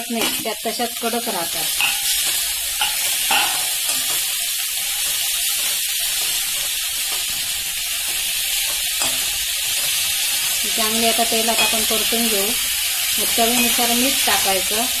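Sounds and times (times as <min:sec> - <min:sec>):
leaves frying in hot oil: 0:00.0 - 0:15.0
steel spatula scraping: 0:01.8 - 0:14.4.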